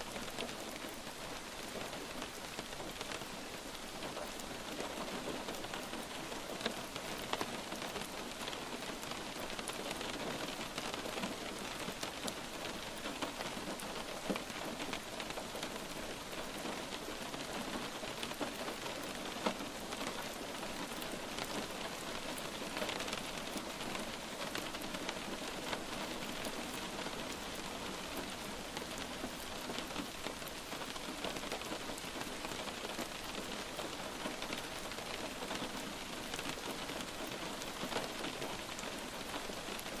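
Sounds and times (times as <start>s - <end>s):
light rain falling: 0.0s - 40.0s.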